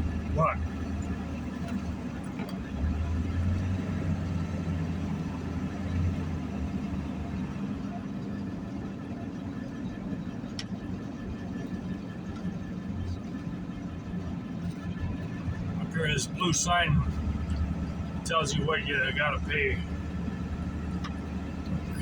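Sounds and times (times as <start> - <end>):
vehicle engine and road drone: 0.0 - 22.0.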